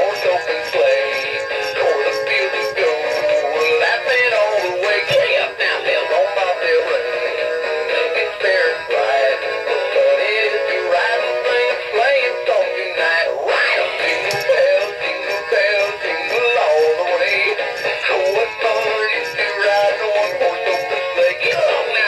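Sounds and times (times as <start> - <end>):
man singing over backing track: 0.0 - 22.0.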